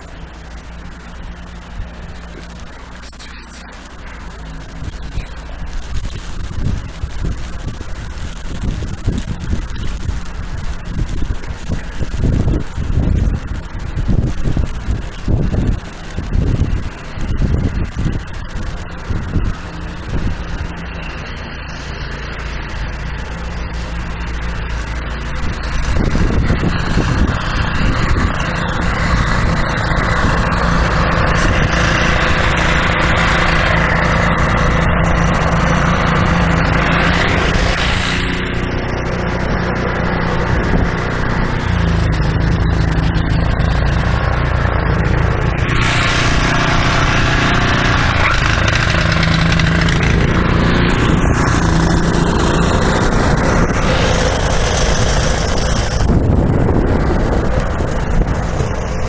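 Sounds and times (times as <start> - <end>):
steady rushing noise: 0.0 - 59.0
vehicle engine running: 0.0 - 59.0.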